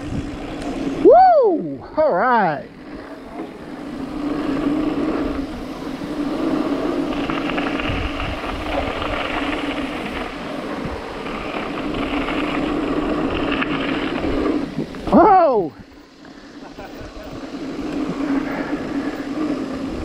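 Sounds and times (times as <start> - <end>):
bike tyres on dirt trail: 0.0 - 20.0
wind buffeting microphone: 0.0 - 20.0.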